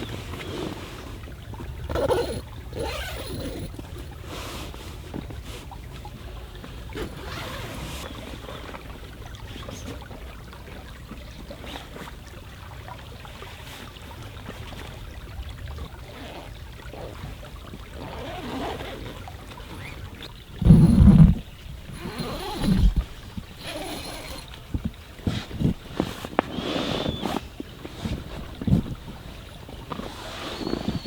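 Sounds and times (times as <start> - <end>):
stream running: 0.6 - 5.2, 6.0 - 31.0.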